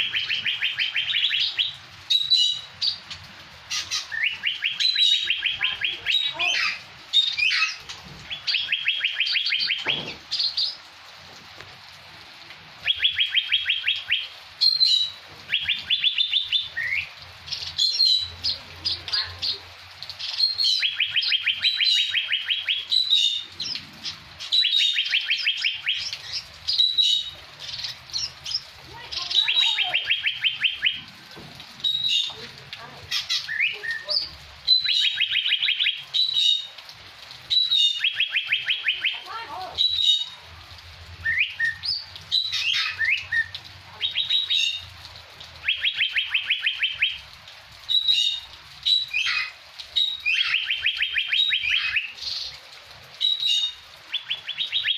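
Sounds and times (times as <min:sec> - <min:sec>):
bird singing with trills: 0:00.0 - 0:03.0, 0:03.8 - 0:10.8, 0:12.9 - 0:19.6, 0:20.2 - 0:23.8, 0:24.4 - 0:31.1, 0:33.2 - 0:36.7, 0:37.5 - 0:40.4, 0:41.3 - 0:44.8, 0:45.6 - 0:47.2, 0:47.9 - 0:52.5, 0:53.2 - 0:54.9.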